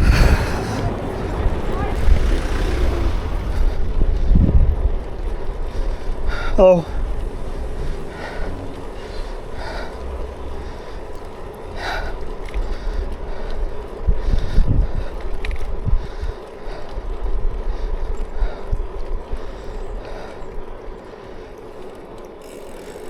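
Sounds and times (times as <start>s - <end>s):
wind buffeting microphone: 0.0s - 21.8s.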